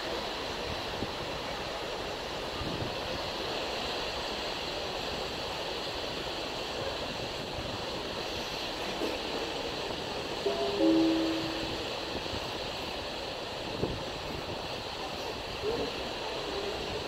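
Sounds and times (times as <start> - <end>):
moving water: 0.0 - 17.0.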